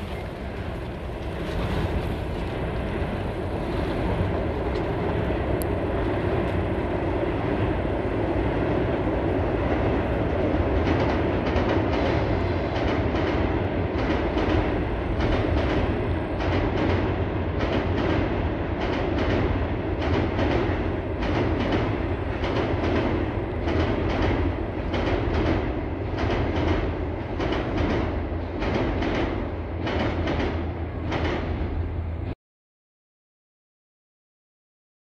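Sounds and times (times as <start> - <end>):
wheels clacking over rail joints: 0.0 - 32.3
train rumbling over bridge: 0.0 - 32.4.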